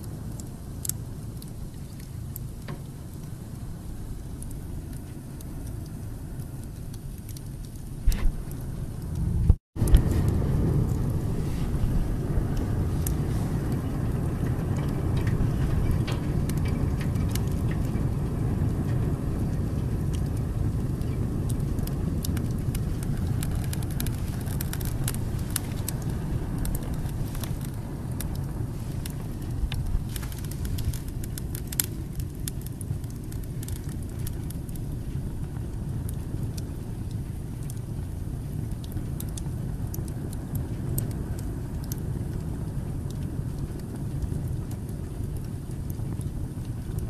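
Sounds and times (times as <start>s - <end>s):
fire flames rumbling: 0.0s - 47.0s
logs crackling and popping: 0.0s - 47.0s.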